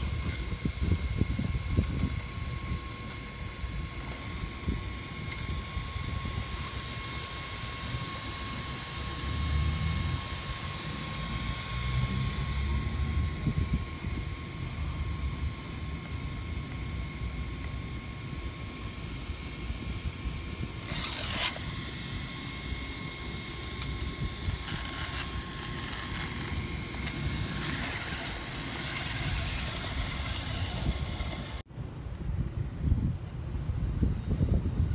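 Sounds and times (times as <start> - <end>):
rc car motor whine: 0.0 - 31.6.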